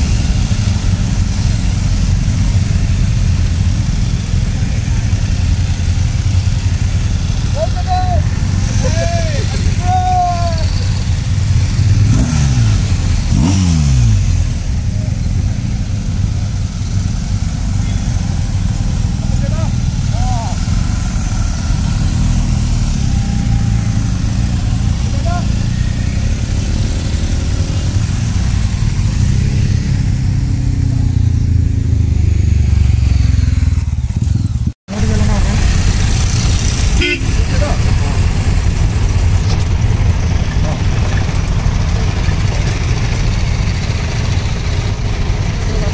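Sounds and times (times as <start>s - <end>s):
motorcycle engine rumble: 0.0s - 45.9s
vehicles passing by: 0.0s - 45.9s.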